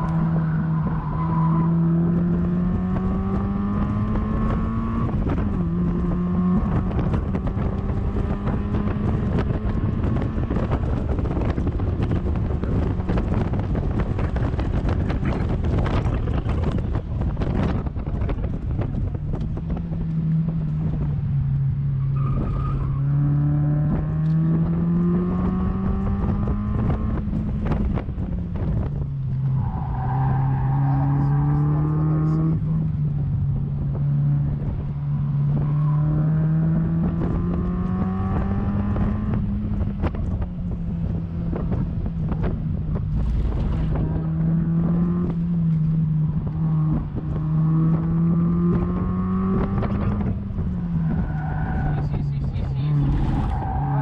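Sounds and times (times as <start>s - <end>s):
car engine accelerating: 0.0s - 54.0s
wind and road rush: 0.0s - 54.0s.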